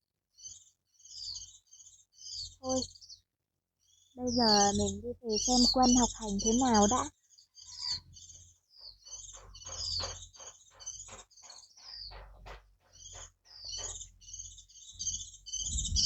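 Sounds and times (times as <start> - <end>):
small birds chirping: 0.3 - 16.0.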